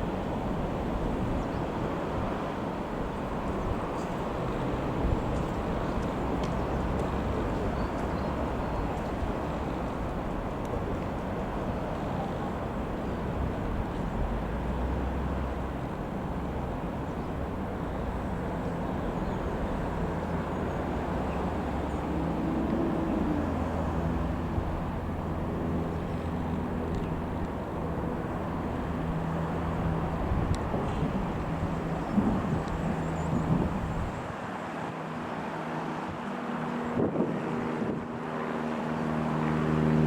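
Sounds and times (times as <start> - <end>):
propeller aircraft engine droning: 0.0 - 40.0.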